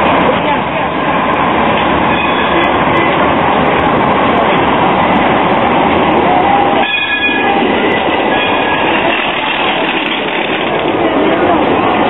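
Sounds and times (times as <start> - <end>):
trams rolling past: 0.0 - 12.0.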